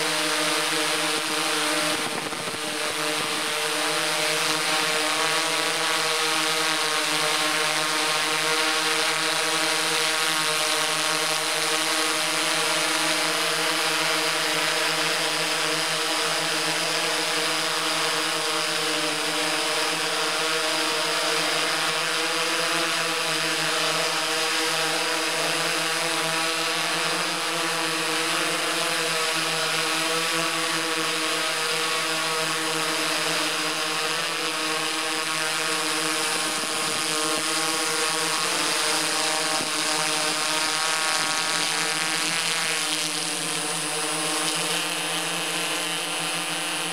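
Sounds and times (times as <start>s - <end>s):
drone propellers whirring: 0.0s - 46.9s.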